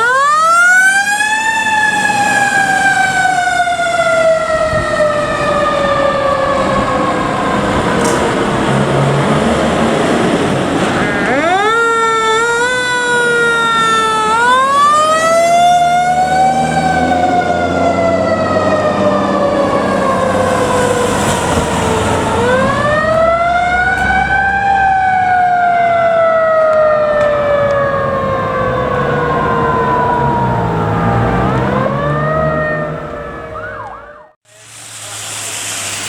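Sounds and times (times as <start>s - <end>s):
fire truck siren wailing: 0.0s - 35.8s
truck engine rumbling: 0.0s - 36.0s.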